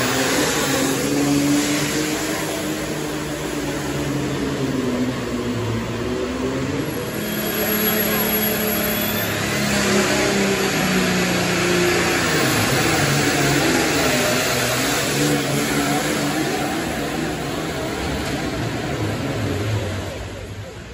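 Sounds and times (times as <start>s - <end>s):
pulling tractor engine at full power: 0.0s - 20.9s.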